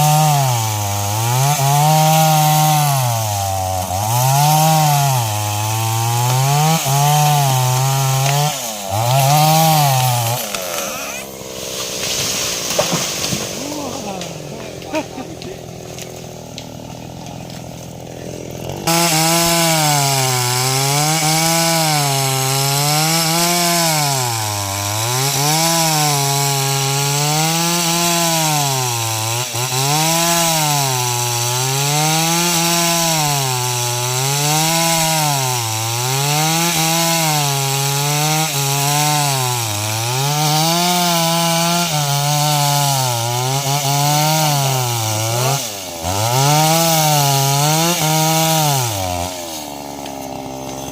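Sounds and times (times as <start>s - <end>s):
chainsaw cutting tree trunk: 0.0s - 50.9s.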